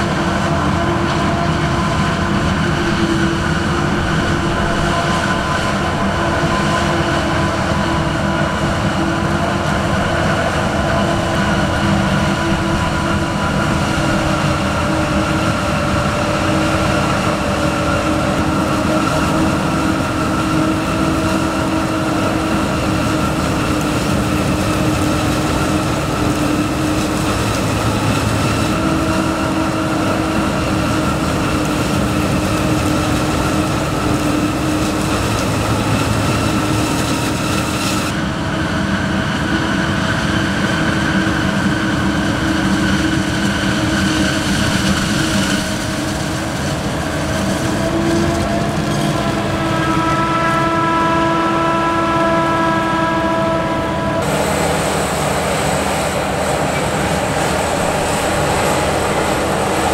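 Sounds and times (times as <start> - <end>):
forage harvester mechanical drone: 0.0 - 59.9.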